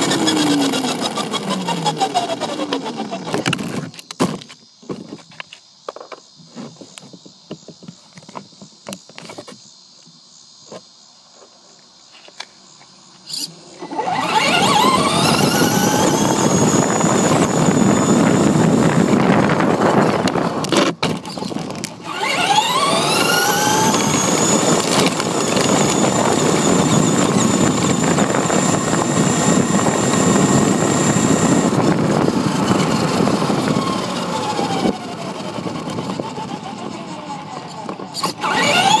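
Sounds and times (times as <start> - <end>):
electric motor and gears whining: 0.0 - 10.9, 12.2 - 39.0.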